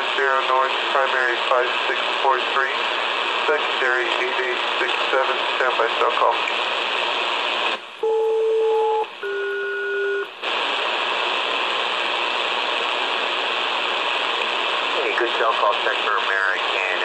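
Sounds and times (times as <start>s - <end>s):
paired steady radio tones: 0.0s - 17.0s
shortwave static hiss: 0.0s - 17.0s.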